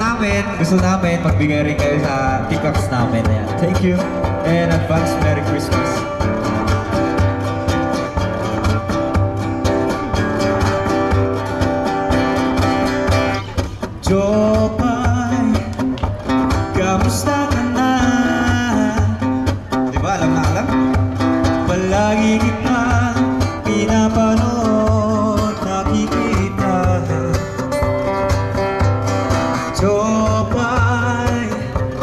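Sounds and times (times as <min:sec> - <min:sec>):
steady beat: 0:00.0 - 0:32.0
strummed acoustic guitar: 0:00.0 - 0:32.0.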